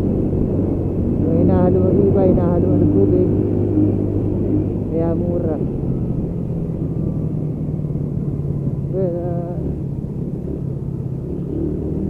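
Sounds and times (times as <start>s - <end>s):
motorcycle engine and road rumble: 0.0s - 12.0s.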